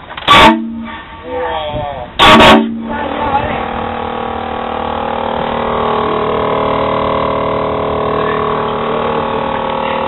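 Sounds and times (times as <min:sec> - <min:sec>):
train horn chord: 0:00.3 - 0:01.3, 0:02.2 - 0:10.0.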